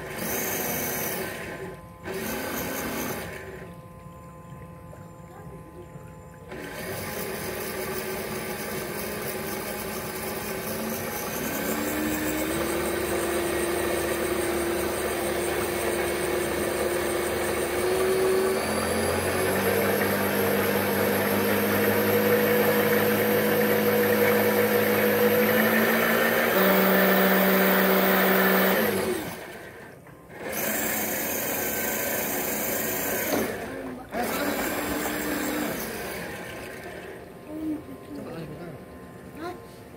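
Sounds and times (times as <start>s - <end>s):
electric motor whining: 0.0s - 39.6s.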